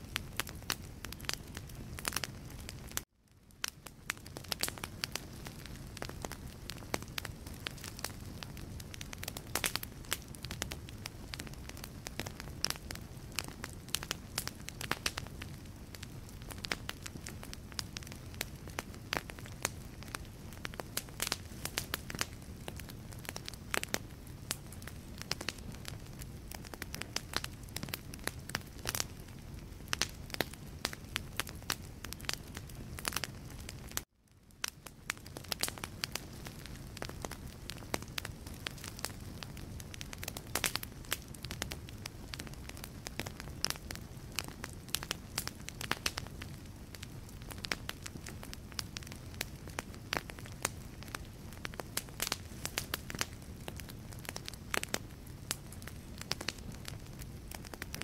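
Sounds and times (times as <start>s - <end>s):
logs crackling in fireplace: 0.0s - 58.0s.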